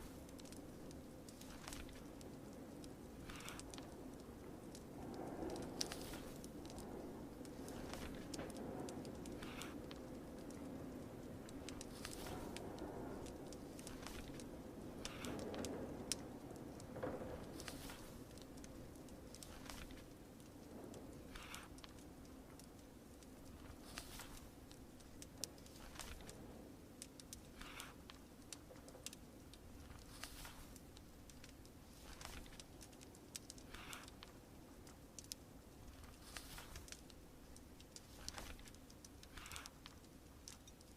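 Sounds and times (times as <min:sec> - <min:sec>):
fire crackling and popping: 0:00.0 - 0:40.9
rain hissing: 0:00.0 - 0:40.9.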